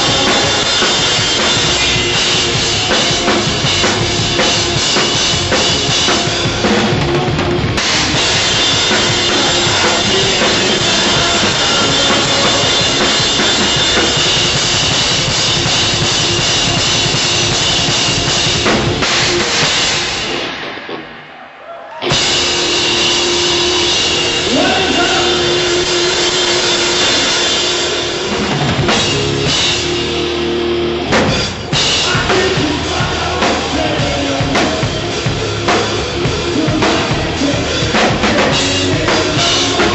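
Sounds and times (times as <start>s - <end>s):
band playing: 0.0s - 39.9s
rock drumming: 0.0s - 39.9s.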